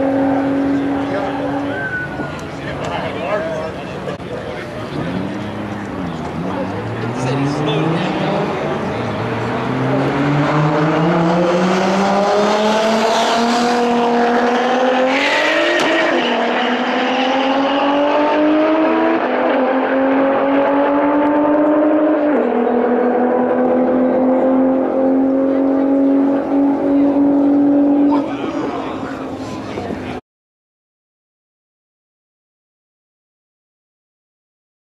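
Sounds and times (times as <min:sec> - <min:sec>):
drag car engines at full throttle: 0:00.0 - 0:30.2.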